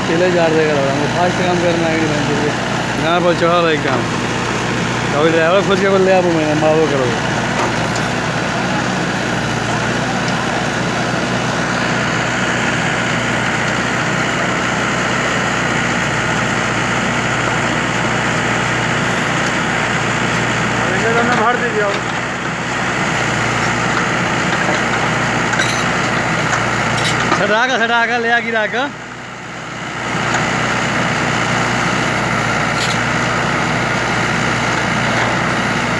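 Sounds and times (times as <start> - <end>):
backhoe hydraulics digging: 0.0 - 28.2, 29.0 - 35.9
tractor diesel engine running: 0.0 - 35.9.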